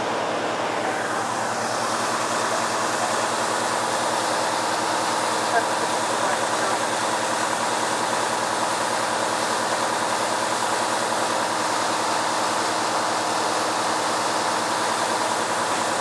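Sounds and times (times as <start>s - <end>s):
engine idling hum: 0.0s - 16.0s
water gushing from fire hydrant: 0.8s - 16.0s.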